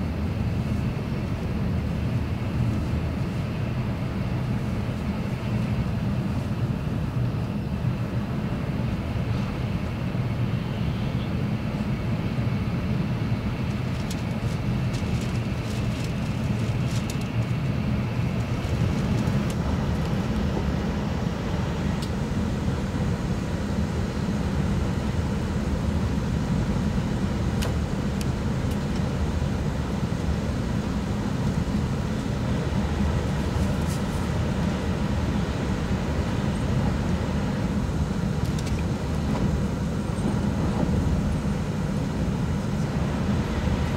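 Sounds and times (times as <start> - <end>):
train running at speed: 0.0 - 43.9.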